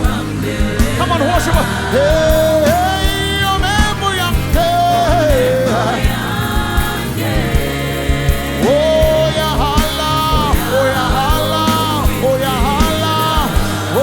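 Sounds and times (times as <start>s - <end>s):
steady drum beat: 0.0s - 14.0s
sliding melody of held notes: 0.4s - 14.0s.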